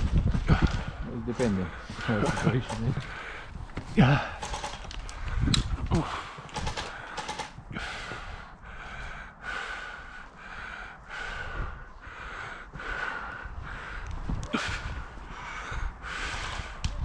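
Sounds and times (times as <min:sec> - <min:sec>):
person breathing hard: 0:00.3 - 0:17.0.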